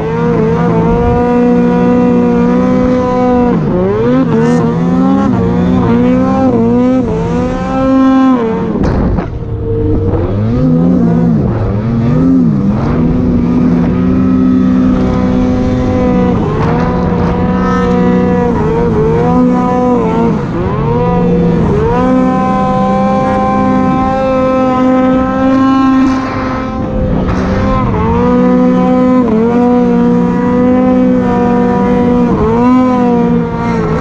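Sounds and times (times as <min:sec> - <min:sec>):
snowmobile engine revving: 0:00.0 - 0:34.0.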